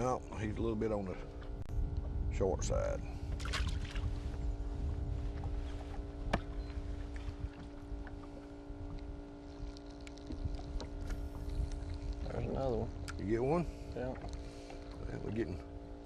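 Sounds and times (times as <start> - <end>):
steady hum: 0.0 - 16.0
wind and water rumble: 0.0 - 16.0.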